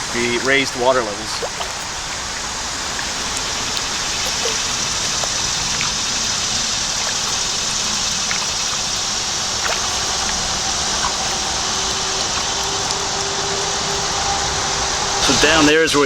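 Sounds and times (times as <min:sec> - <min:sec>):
small drips and splashes: 0:00.0 - 0:15.3
flowing creek water: 0:00.0 - 0:16.0.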